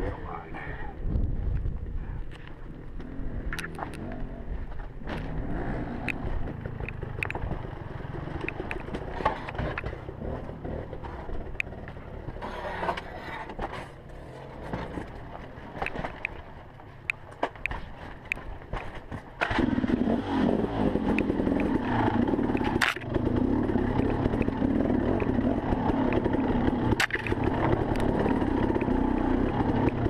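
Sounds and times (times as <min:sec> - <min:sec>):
dirt bike engine at low revs: 0:00.0 - 0:30.0
bike knocking and scraping rock: 0:02.4 - 0:19.6, 0:21.1 - 0:30.0.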